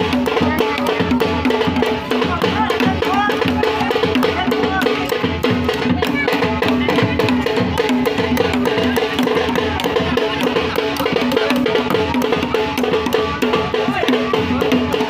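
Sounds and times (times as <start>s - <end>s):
fast loud drumming: 0.0s - 15.0s
pitched drum beat: 0.0s - 15.0s.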